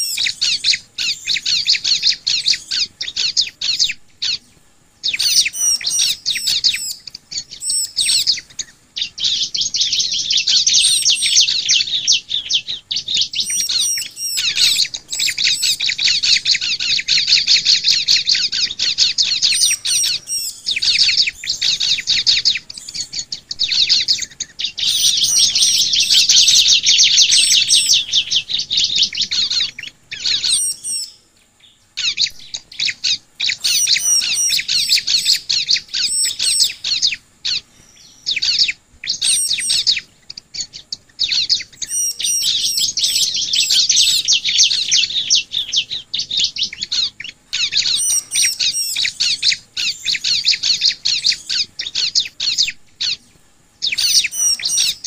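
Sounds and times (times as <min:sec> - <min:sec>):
bird high-pitched chattering chirps: 0:00.0 - 0:04.4, 0:05.0 - 0:31.2, 0:32.0 - 0:55.0.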